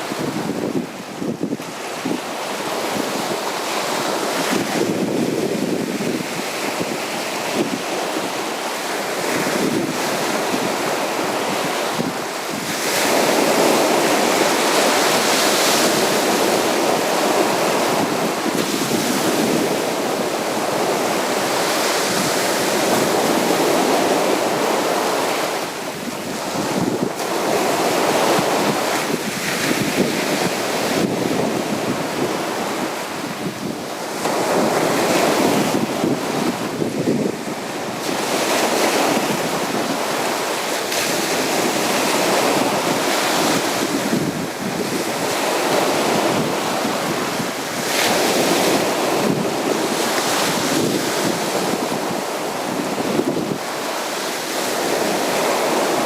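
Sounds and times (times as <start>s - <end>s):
sea surf breaking on beach: 0.0s - 56.0s.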